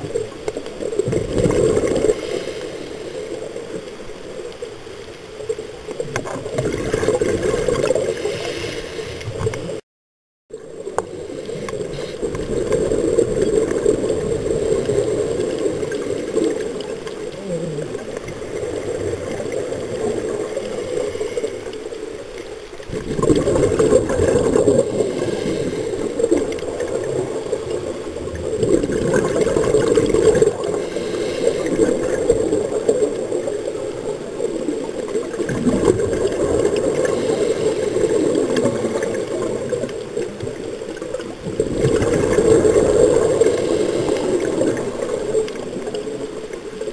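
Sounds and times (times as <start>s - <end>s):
underwater exhaust bubbles gurgling: 0.0s - 9.8s, 10.5s - 46.9s.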